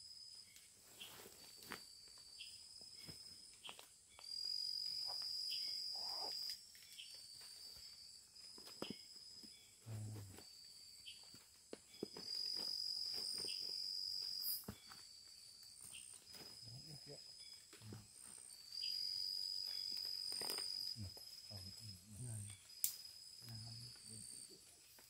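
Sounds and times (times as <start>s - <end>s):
insect trilling: 0.0s - 25.0s.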